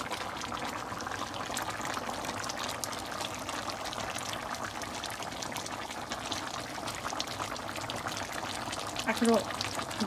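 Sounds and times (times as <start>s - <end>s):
meat sizzling and bubbling in pan: 0.0s - 10.0s.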